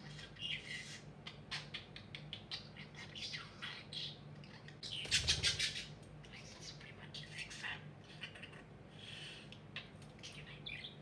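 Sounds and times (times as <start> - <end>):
budgerigars chirping and warbling: 0.1 - 11.0.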